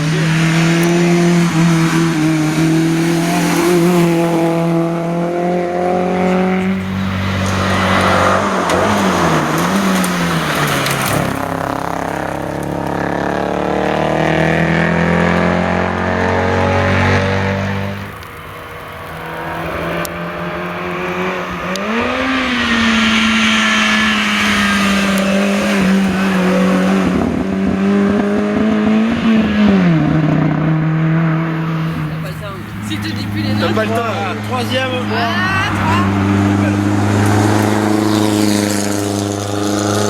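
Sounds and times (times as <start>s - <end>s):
rally car engines at full throttle: 0.0s - 40.0s.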